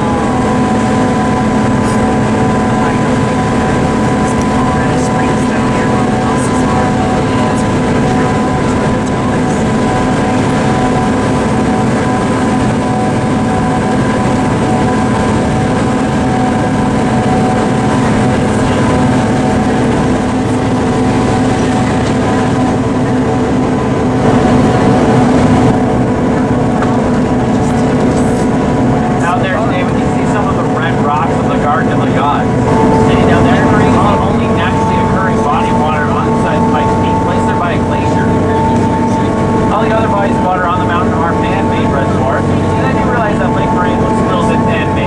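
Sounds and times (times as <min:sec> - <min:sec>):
railcar diesel and gear drone: 0:00.0 - 0:45.0.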